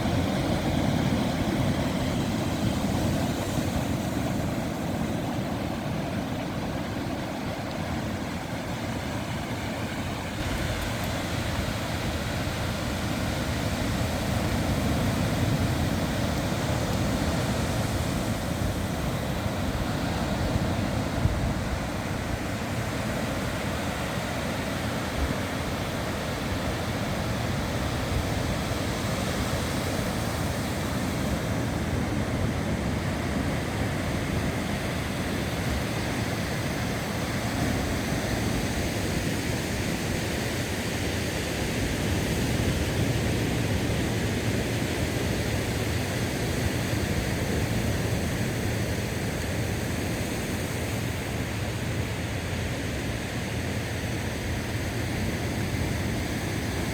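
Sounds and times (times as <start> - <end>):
ocean surf: 0.0 - 56.9.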